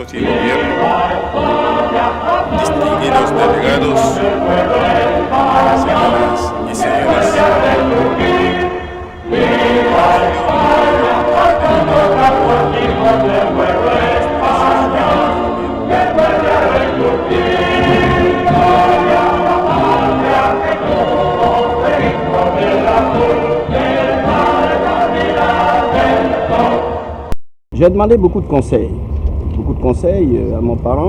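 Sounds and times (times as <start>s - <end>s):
choir singing: 0.0s - 27.3s.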